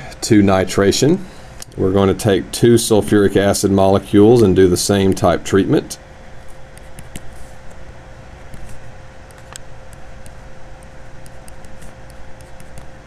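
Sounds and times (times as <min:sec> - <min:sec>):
faint constant tone: 0:00.0 - 0:13.0
low hum and hiss: 0:00.0 - 0:13.0.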